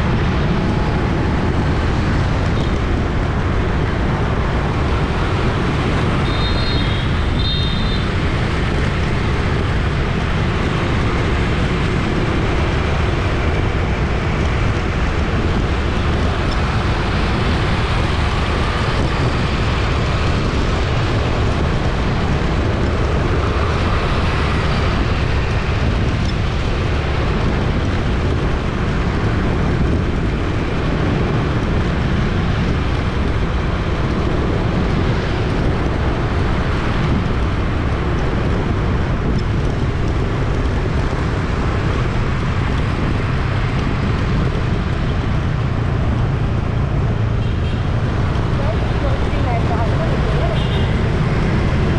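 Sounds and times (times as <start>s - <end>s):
city traffic rumble: 0.0s - 51.9s.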